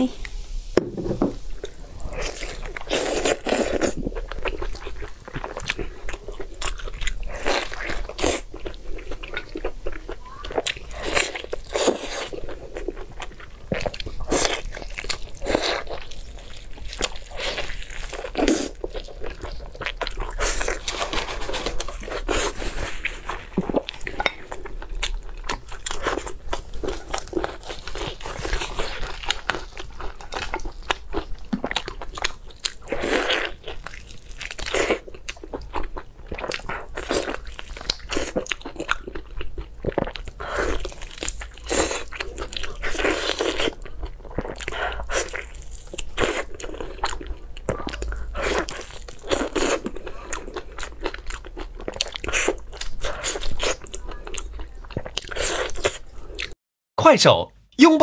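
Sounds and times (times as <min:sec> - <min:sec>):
chewing meat off a bone: 0:02.2 - 0:56.6.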